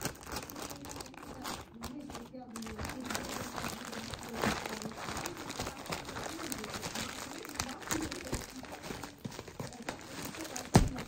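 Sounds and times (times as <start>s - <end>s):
plastic mailer bag crinkling: 0.0s - 11.0s.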